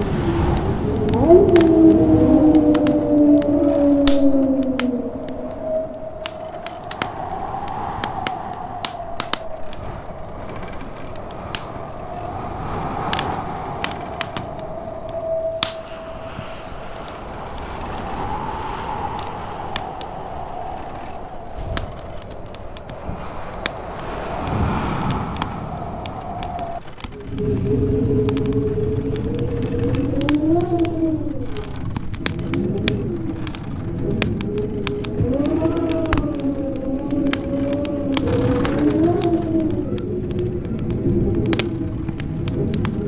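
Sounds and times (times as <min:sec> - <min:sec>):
wind howling: 0:00.0 - 0:43.0
wood fire crackling and popping: 0:00.0 - 0:43.0.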